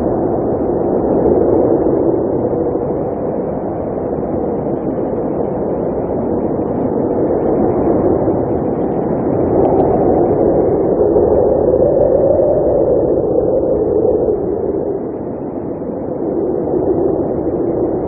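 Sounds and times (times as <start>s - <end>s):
blizzard wind rushing: 0.0s - 18.0s.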